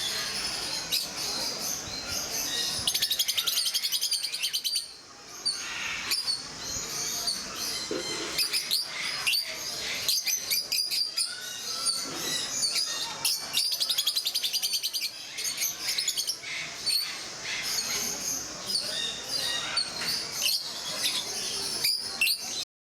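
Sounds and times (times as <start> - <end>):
lovebirds chirping and trilling: 0.0 - 22.6.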